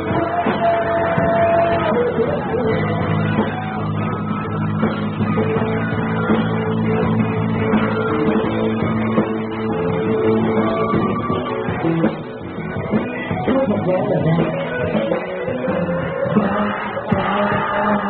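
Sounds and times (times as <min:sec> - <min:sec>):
guitars strumming chords: 0:00.0 - 0:18.0
live rock band playing: 0:00.0 - 0:18.0.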